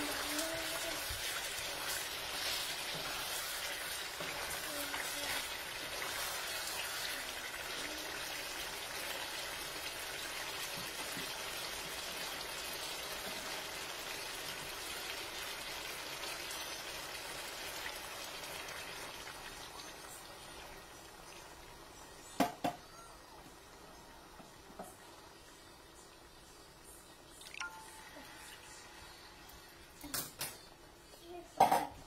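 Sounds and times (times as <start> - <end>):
curry sizzling in a wok: 0.0 - 26.9.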